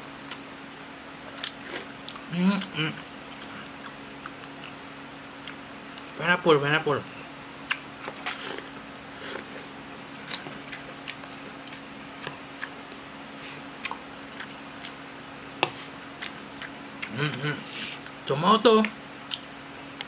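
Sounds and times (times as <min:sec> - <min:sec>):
person chewing food: 0:00.2 - 0:00.7, 0:01.3 - 0:06.2, 0:07.6 - 0:18.2, 0:18.8 - 0:20.0.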